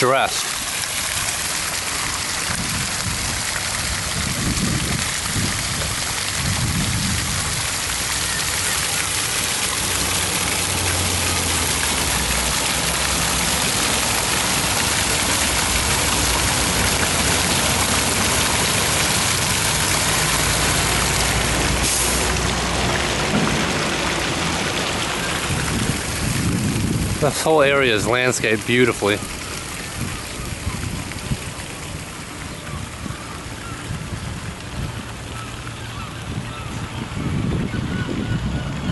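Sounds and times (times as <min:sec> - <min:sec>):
fountain water splashing into basin: 0:00.0 - 0:38.9.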